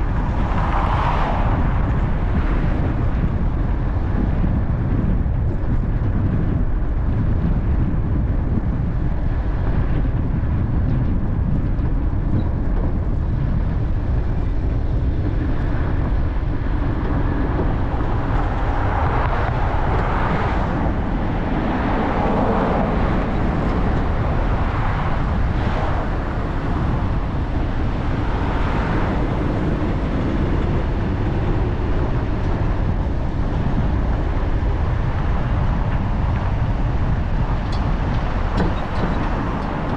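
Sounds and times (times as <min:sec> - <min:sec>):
rushing noise: 0:00.0 - 0:39.9
tyre and engine rumble: 0:00.0 - 0:39.9.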